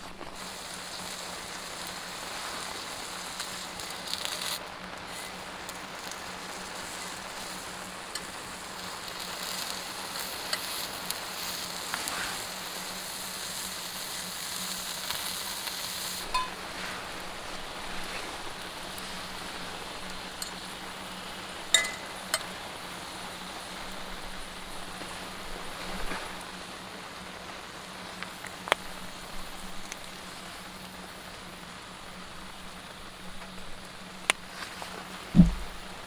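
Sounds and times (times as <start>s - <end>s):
meat sizzling on a grill: 0.0s - 36.0s.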